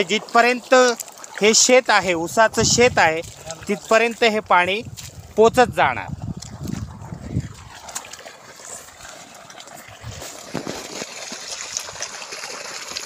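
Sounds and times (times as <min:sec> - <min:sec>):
water trickling along a furrow: 0:00.0 - 0:13.0.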